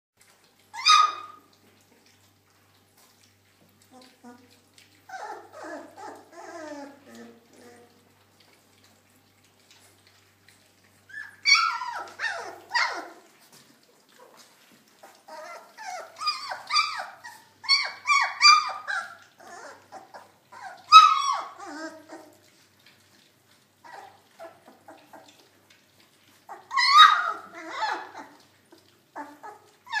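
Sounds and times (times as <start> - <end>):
puppies whimpering and squealing: 0.5 - 2.1, 2.9 - 30.0.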